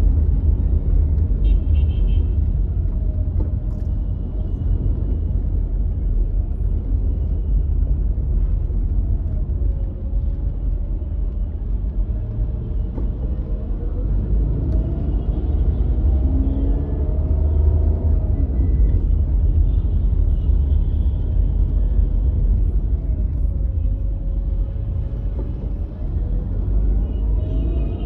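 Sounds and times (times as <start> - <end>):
car driving rumble: 0.0 - 28.0.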